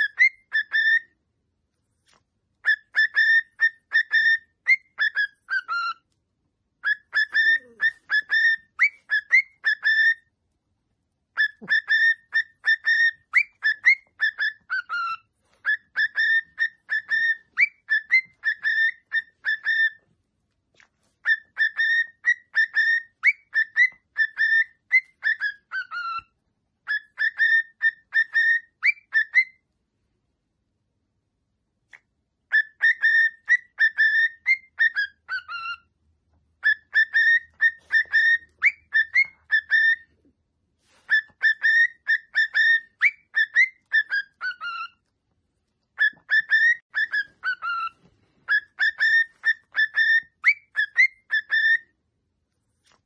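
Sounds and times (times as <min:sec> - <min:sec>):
cockatiel whistling song: 0:00.0 - 0:01.2, 0:02.6 - 0:06.2, 0:06.8 - 0:10.4, 0:11.3 - 0:20.2, 0:20.8 - 0:29.7, 0:31.9 - 0:45.1, 0:45.9 - 0:52.0.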